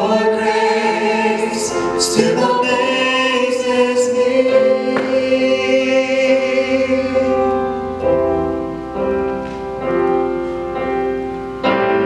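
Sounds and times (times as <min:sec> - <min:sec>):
choir holding a chord: 0:00.0 - 0:10.3
piano chords: 0:00.0 - 0:12.0.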